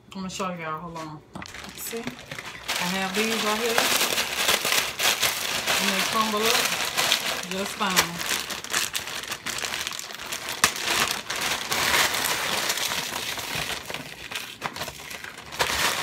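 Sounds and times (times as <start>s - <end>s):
frozen onions crackling: 1.4s - 16.0s
plastic bag crinkling: 1.4s - 16.0s.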